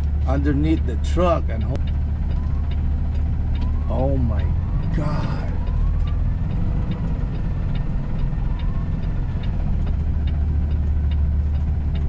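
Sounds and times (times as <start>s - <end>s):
light regular ticking: 0.0s - 12.0s
truck diesel engine droning: 0.0s - 12.0s.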